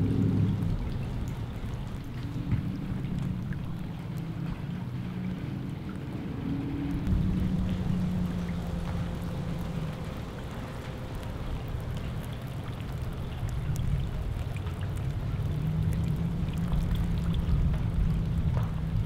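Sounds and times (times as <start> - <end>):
low steady hum: 0.0 - 19.0
rain falling on water: 0.0 - 19.0.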